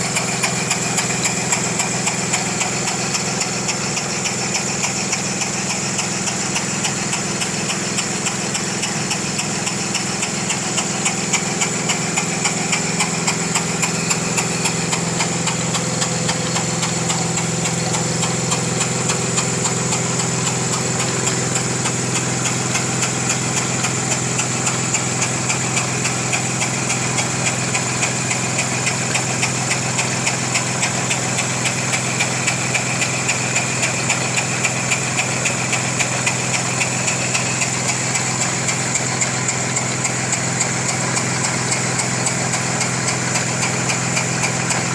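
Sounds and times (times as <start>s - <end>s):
model steam engine beat: 0.0s - 44.9s.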